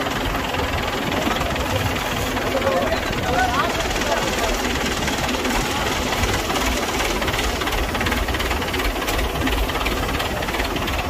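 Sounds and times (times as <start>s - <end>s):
crane engine running: 0.0s - 11.0s.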